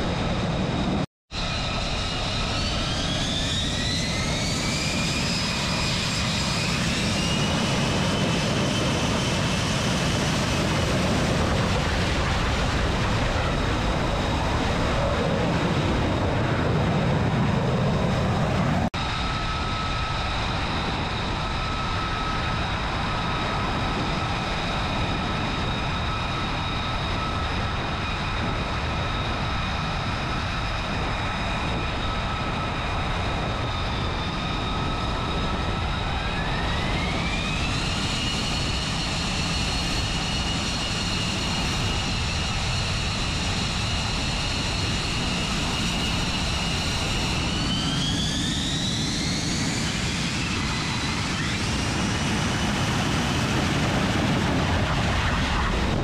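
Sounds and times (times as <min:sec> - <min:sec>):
jet engine whine and rumble: 0:00.0 - 0:56.0.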